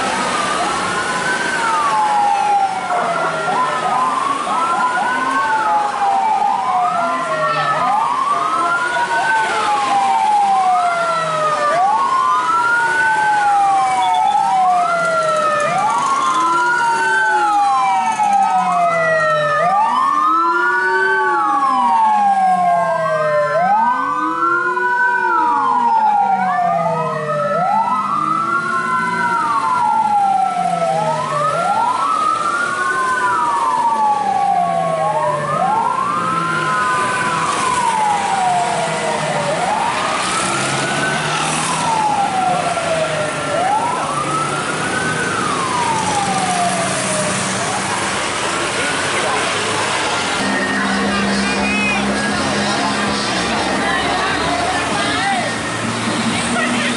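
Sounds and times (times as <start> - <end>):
sirens wailing: 0.0 - 56.9.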